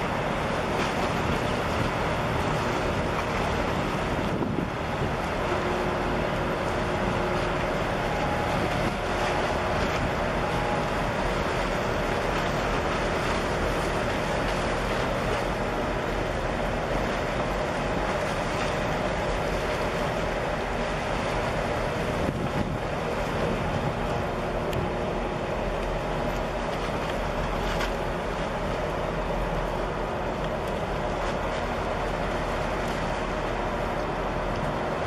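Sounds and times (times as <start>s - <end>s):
ship machinery hum: 0.0s - 35.0s
wind and water rushing: 0.0s - 35.0s.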